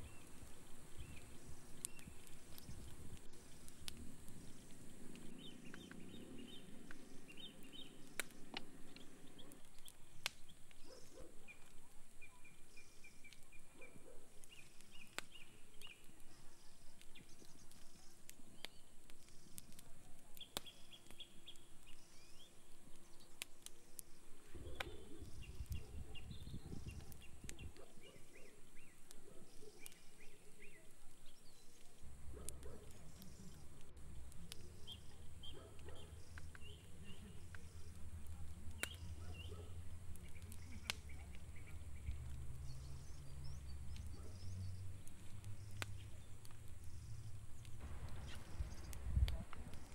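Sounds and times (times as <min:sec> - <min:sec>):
campfire crackling and popping: 0:00.0 - 0:49.9
small birds chirping: 0:00.0 - 0:49.9.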